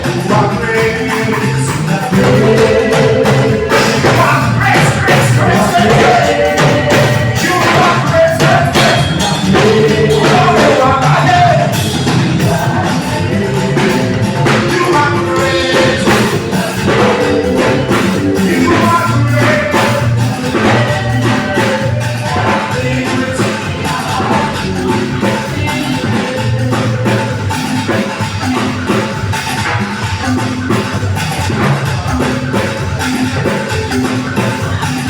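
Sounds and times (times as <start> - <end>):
person singing: 0.0 - 29.2
drum beat: 0.0 - 35.0
live band playing: 0.0 - 35.0.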